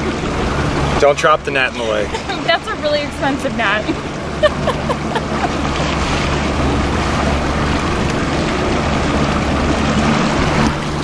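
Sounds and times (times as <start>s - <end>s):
outboard motor running: 0.0s - 11.0s
water rushing past hull: 0.0s - 11.0s.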